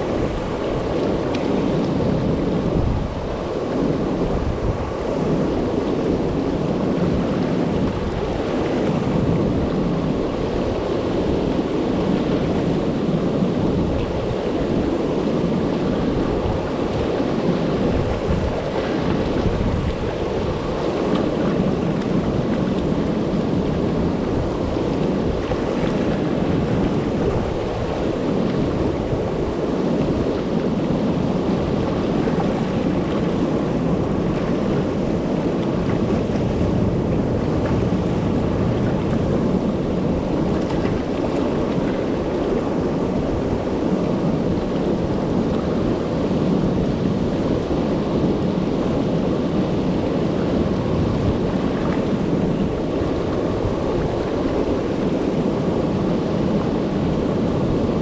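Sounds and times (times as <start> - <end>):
river water rushing over dam: 0.0 - 58.0.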